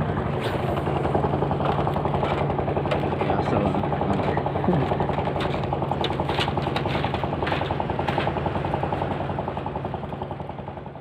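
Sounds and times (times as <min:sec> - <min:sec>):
engine knocking: 0:00.0 - 0:11.0.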